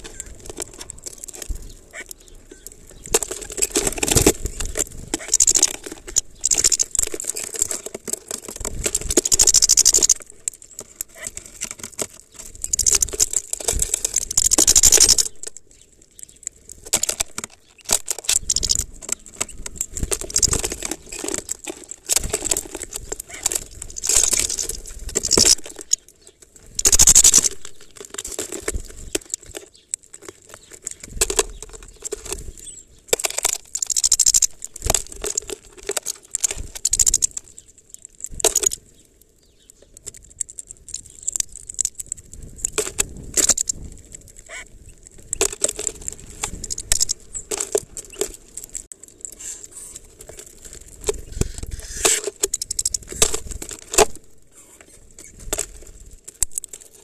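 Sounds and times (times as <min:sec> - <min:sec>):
seeds rattling in plastic feeder: 0:00.0 - 0:38.9, 0:40.0 - 0:54.2.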